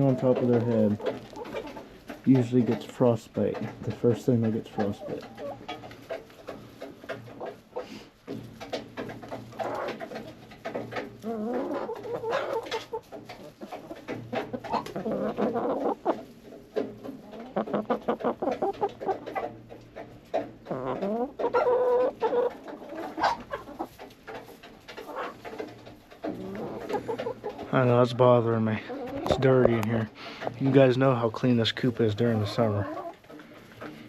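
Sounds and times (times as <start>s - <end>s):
chickens clucking and calling: 0.0s - 34.0s.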